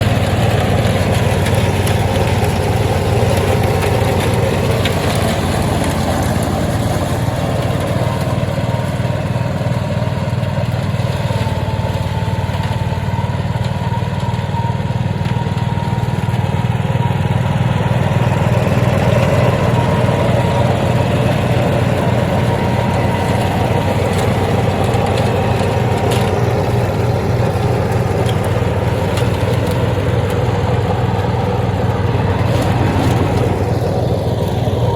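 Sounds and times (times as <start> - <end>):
mower petrol engine running: 0.0 - 34.9.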